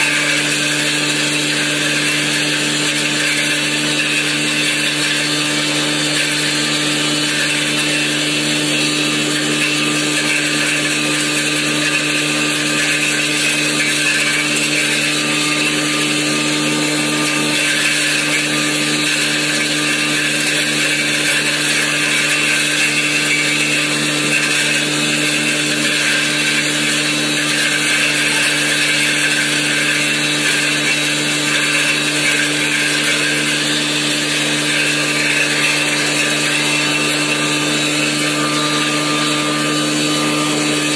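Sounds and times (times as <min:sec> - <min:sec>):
dense grinding noise: 0:00.0 - 0:40.9
grinding machine motor hum: 0:00.0 - 0:40.9.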